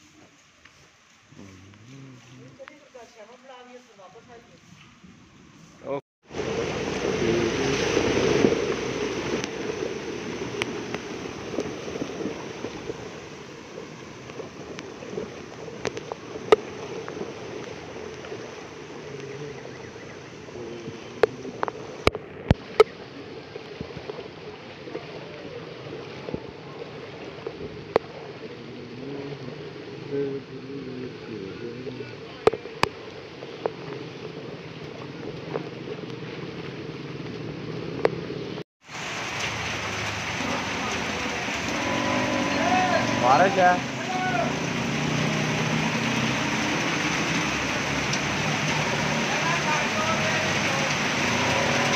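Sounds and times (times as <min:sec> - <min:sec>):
steady rainfall: 0:05.8 - 0:51.9.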